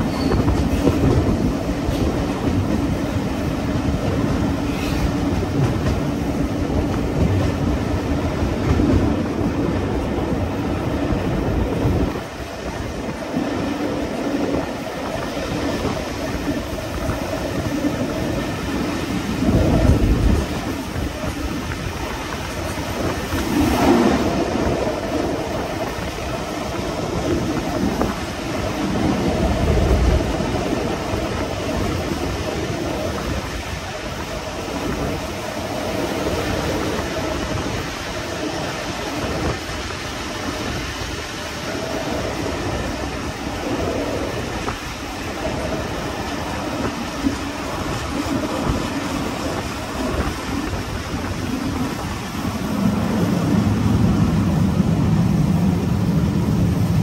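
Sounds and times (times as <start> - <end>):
train carriages rumbling on track: 0.0 - 57.0.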